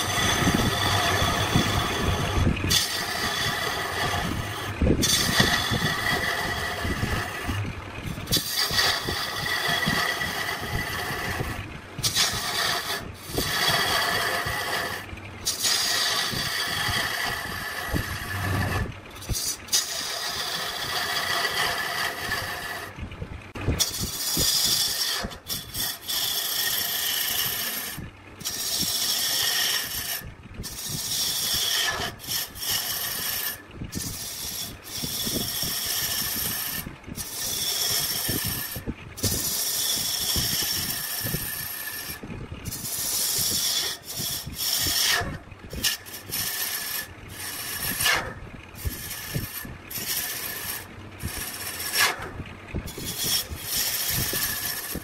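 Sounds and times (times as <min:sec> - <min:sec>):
woodworking tool whine: 0:00.0 - 0:23.1, 0:23.8 - 0:55.0.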